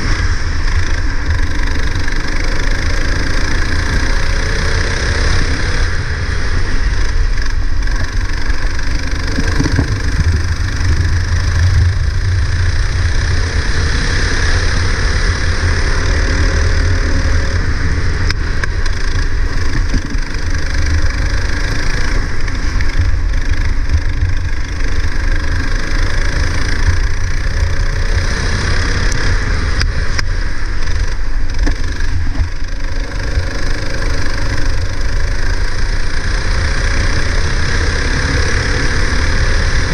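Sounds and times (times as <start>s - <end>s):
go-kart engine accelerating: 0.0s - 39.9s
low rumble: 0.0s - 39.9s.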